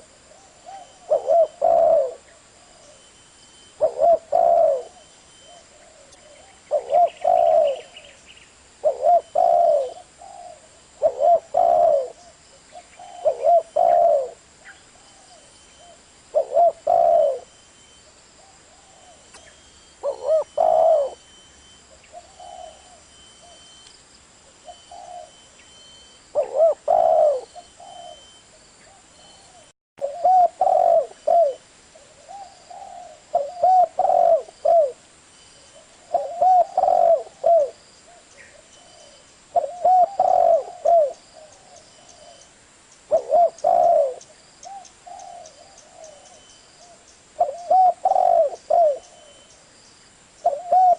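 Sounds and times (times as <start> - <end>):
dove cooing: 0.0 - 3.0, 3.7 - 8.2, 8.8 - 17.6, 18.4 - 21.3, 21.9 - 23.7, 24.5 - 25.5, 26.3 - 35.0, 35.8 - 42.5, 43.1 - 49.6, 50.4 - 50.9.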